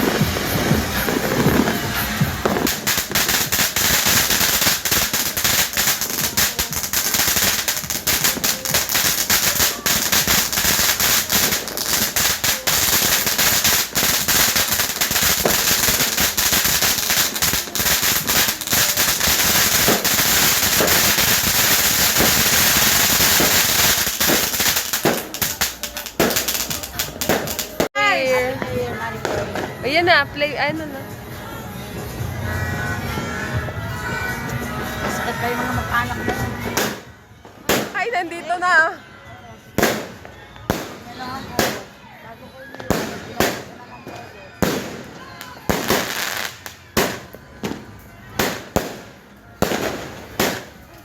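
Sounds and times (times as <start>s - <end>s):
firecrackers and fireworks barrage: 0.0s - 30.7s, 32.6s - 39.0s, 39.7s - 51.0s.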